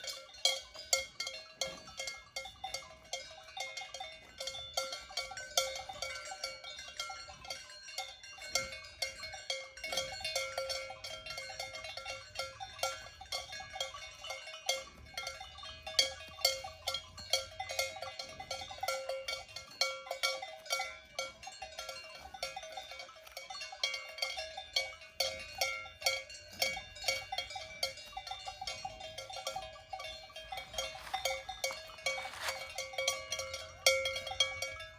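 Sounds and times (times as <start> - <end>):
cowbells clanking: 0.0 - 34.9.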